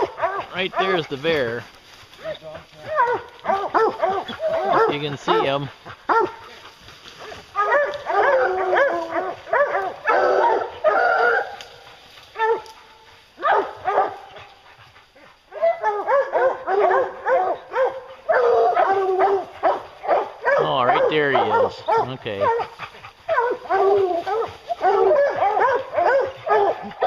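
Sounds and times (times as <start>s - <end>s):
hounds baying and barking: 0.0s - 27.0s.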